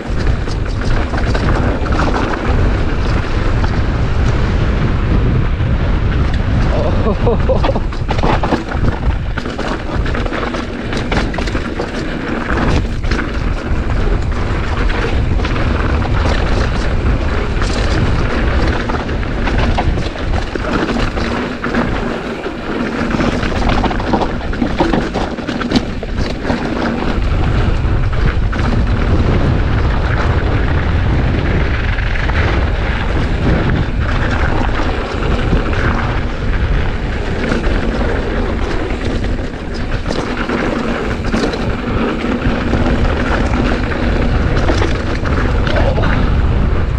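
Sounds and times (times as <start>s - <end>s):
bike clicks and rattles: 0.0s - 46.9s
wind buffeting microphone: 0.0s - 46.9s.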